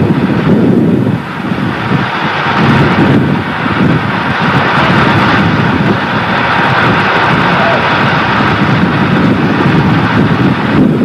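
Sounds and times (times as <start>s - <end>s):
loud steady rumbling: 0.0s - 11.0s
wind buffeting microphone: 0.0s - 11.0s.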